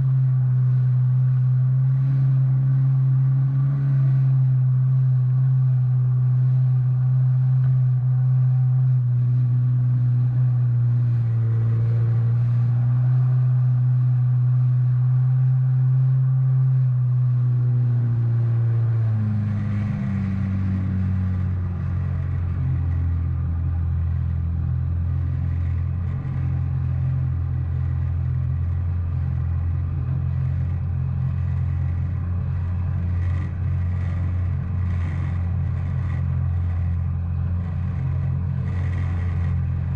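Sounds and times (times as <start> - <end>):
personal watercraft engine running: 0.0 - 39.9.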